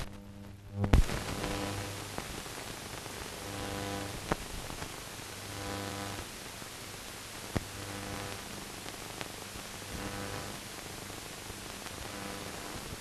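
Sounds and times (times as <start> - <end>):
buzzing hum: 0.0 - 13.0
steady hiss: 0.0 - 13.0.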